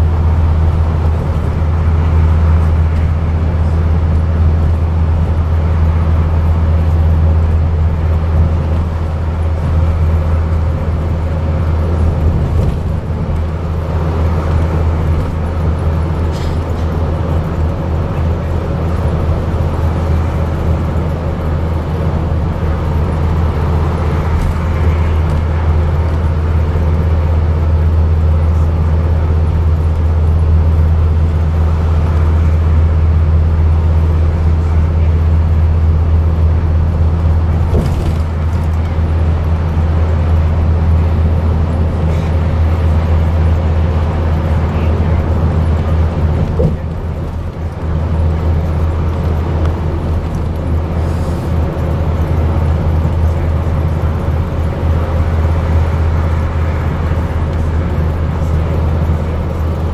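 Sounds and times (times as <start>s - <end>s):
bus diesel engine droning: 0.0s - 59.9s
road noise: 0.0s - 59.9s.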